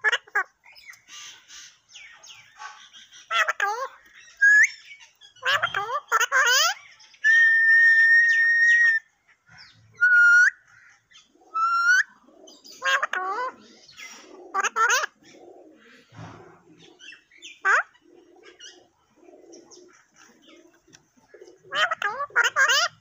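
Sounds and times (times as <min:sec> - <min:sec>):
harsh parakeet calls: 0:00.0 - 0:07.5, 0:08.1 - 0:23.0
soft bird chatter: 0:00.0 - 0:23.0.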